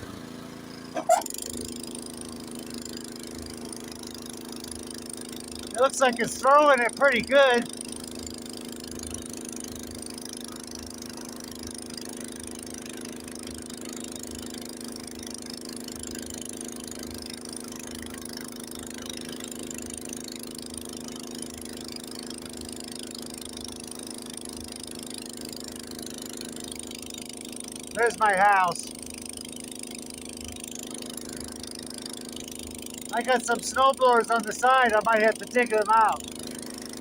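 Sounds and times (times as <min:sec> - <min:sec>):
snowblower engine running: 0:00.0 - 0:37.0.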